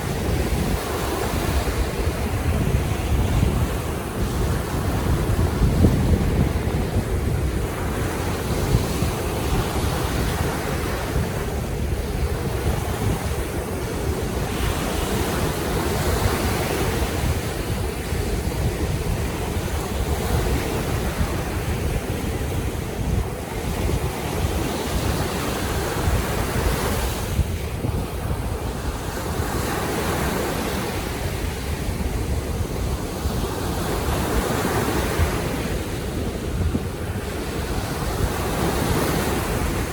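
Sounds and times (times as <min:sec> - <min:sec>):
sea waves washing in: 0:00.0 - 0:39.9
wind on microphone: 0:00.0 - 0:39.9.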